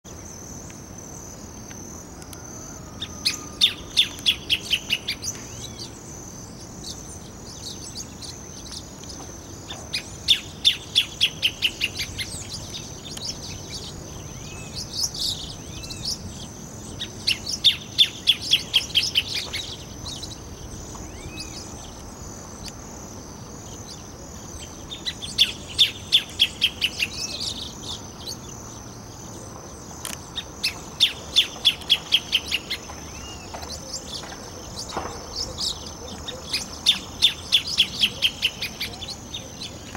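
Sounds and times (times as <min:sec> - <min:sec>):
bird singing repeated notes: 0:02.9 - 0:22.8, 0:23.7 - 0:39.9.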